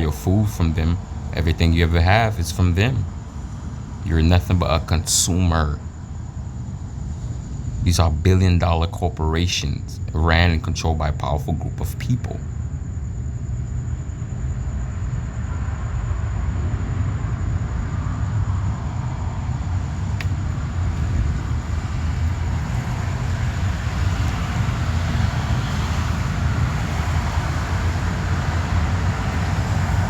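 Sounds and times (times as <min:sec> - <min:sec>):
low rumble with hiss: 0:00.0 - 0:30.0.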